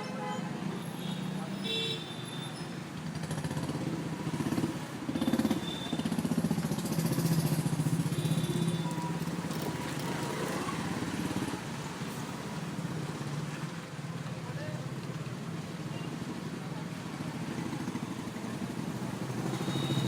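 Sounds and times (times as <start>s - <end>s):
road noise: 0.0s - 20.0s
vehicle engines passing: 0.0s - 20.0s.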